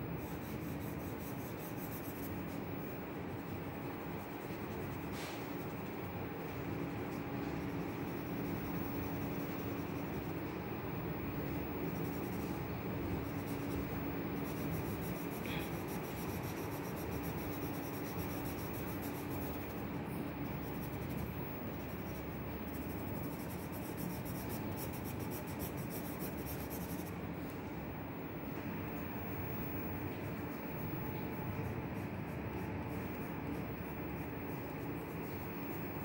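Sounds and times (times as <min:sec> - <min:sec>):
pencil scratching on paper: 0:00.1 - 0:27.2, 0:29.9 - 0:36.0.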